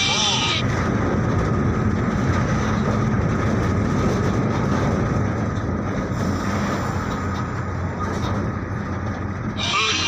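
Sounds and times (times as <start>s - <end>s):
loud rumbling rush: 0.0s - 10.0s.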